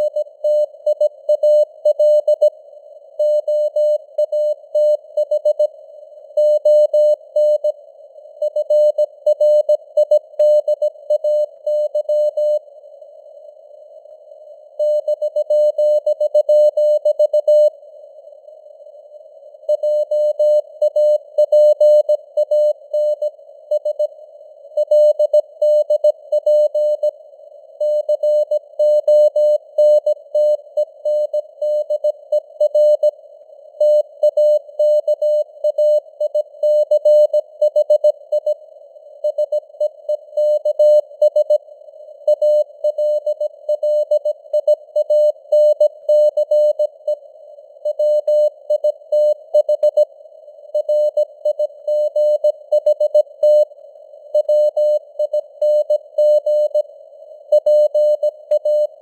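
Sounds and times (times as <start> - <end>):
faint radio static hiss: 0.0 - 59.0.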